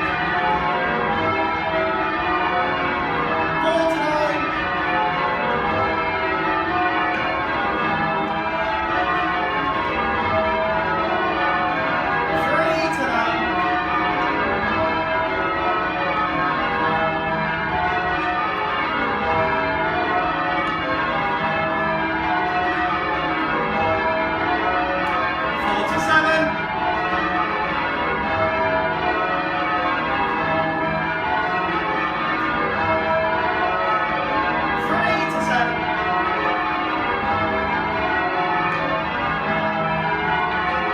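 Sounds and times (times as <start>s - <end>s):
church bells change ringing: 0.0s - 40.9s.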